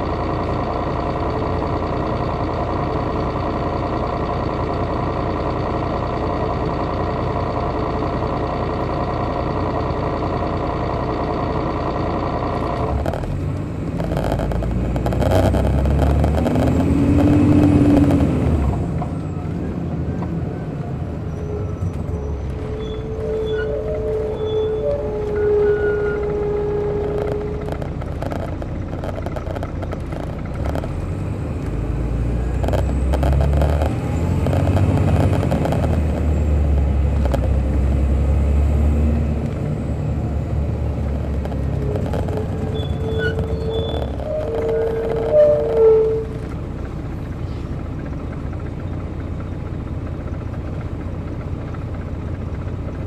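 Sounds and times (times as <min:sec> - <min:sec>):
diesel engine running: 0:00.0 - 0:53.0
low rumble with rising and falling tone: 0:00.0 - 0:53.0.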